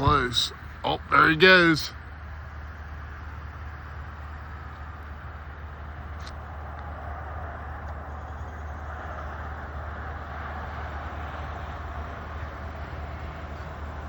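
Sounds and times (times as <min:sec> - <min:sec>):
low vehicle rumble: 0:00.0 - 0:14.0
road noise hiss: 0:00.0 - 0:14.0.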